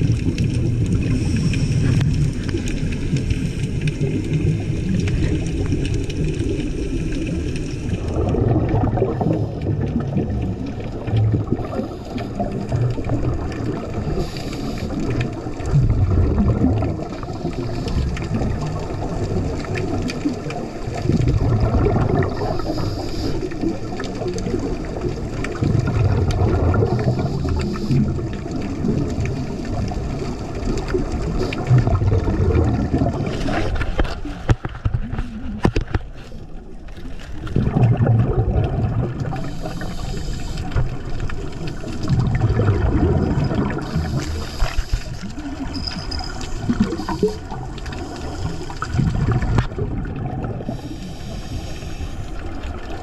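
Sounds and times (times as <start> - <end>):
underwater bubbles gurgling: 0.0 - 53.0.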